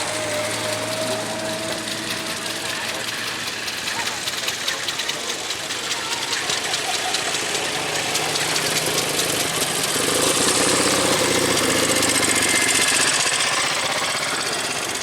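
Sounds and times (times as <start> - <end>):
vehicle engine driving past: 0.0 - 5.3, 7.1 - 14.8.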